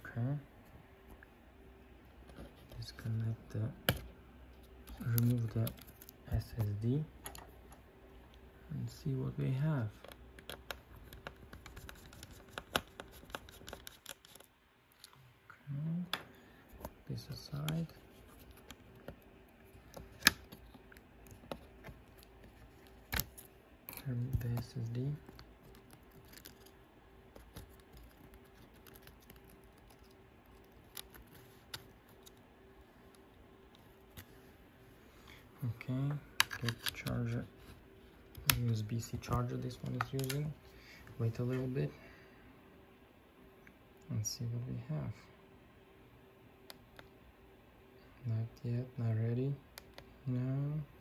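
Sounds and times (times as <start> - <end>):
faint low hum: 0.0 - 51.0.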